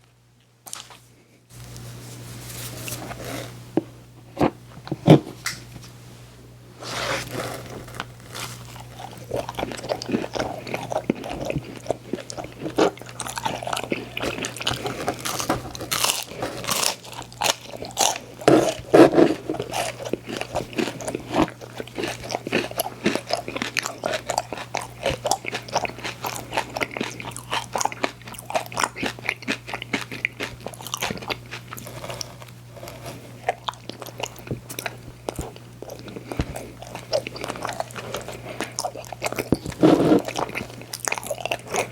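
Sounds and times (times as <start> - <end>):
crunchy biting and chewing: 6.9 - 41.9.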